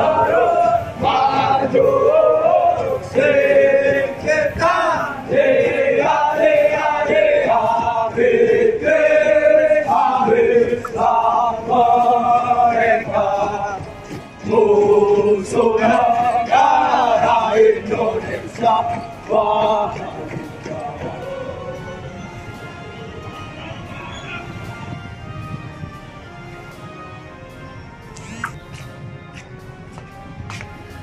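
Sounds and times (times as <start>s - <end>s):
group singing marching song: 0.0s - 27.3s.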